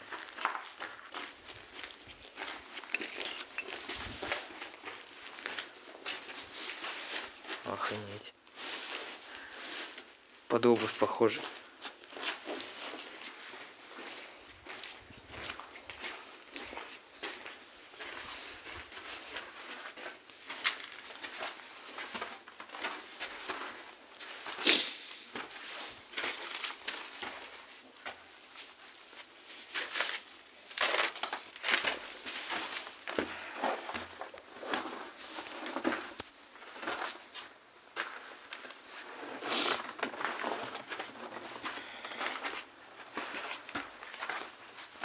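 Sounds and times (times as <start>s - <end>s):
crunching footsteps: 0.0s - 8.0s, 10.8s - 45.0s.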